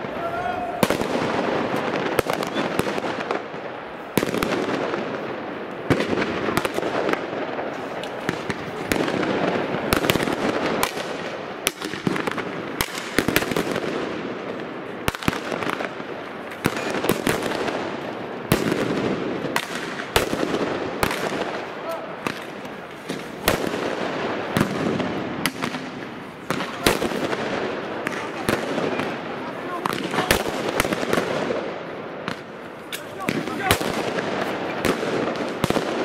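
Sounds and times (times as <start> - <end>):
fireworks bangs: 0.0 - 36.0
fireworks crackle: 0.0 - 36.0.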